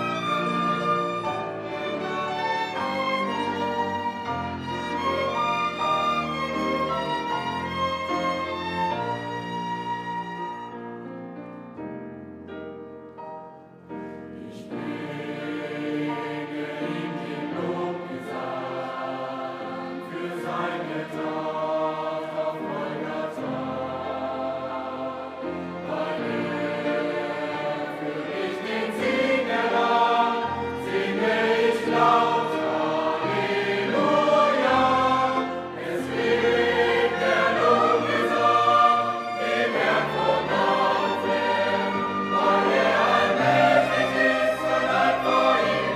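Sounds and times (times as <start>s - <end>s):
choir singing with instruments: 0.0s - 10.6s, 14.3s - 45.9s.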